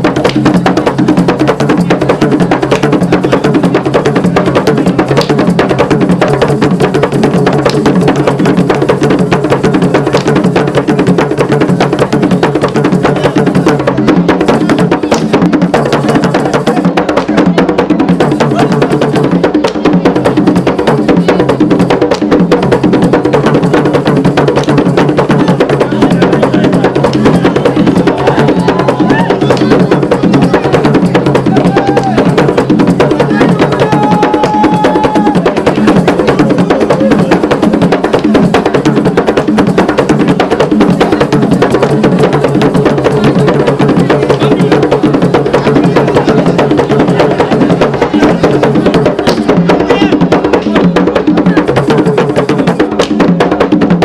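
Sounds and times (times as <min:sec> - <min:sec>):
drums and wooden percussion music: 0:00.0 - 0:54.0.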